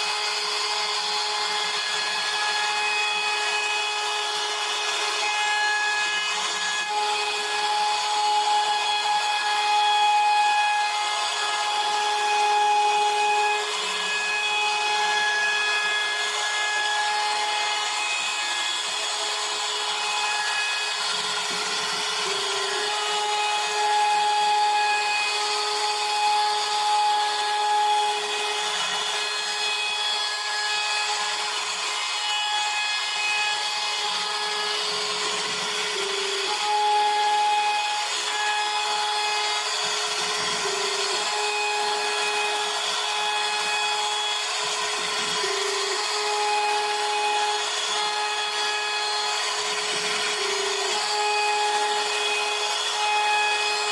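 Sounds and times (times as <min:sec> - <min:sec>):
router spindle carving wood: 0:00.0 - 0:53.9.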